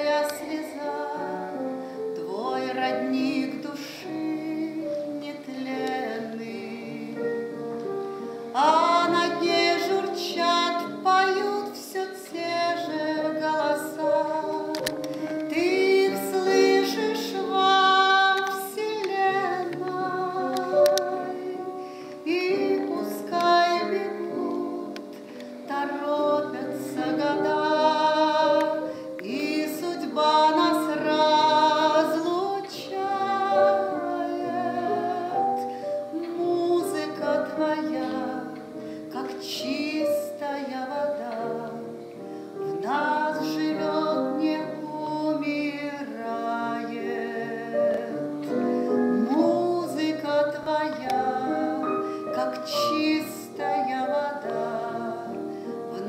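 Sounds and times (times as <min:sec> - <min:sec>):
woman singing with vibrato: 0:00.0 - 0:07.6, 0:08.5 - 0:56.0
digital piano playing: 0:00.0 - 0:56.0.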